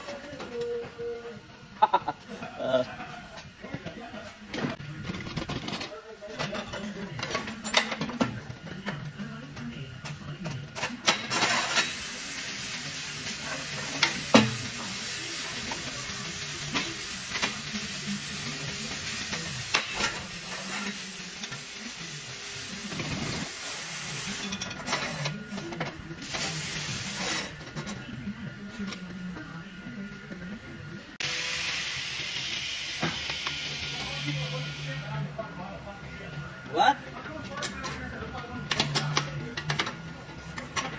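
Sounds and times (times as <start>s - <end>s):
shop noise hiss: 4.1s - 40.9s.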